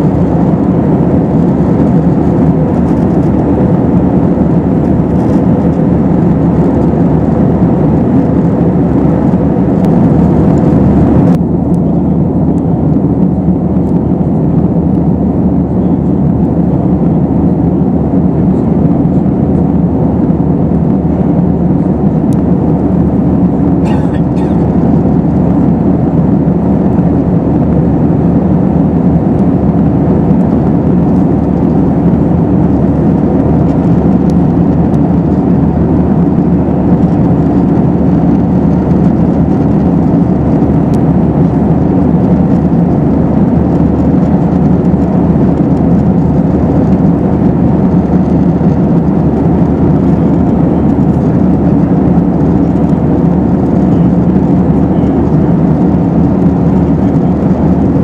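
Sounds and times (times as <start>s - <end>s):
air rushing along fuselage: 0.0s - 58.0s
airplane engines running: 0.0s - 58.0s.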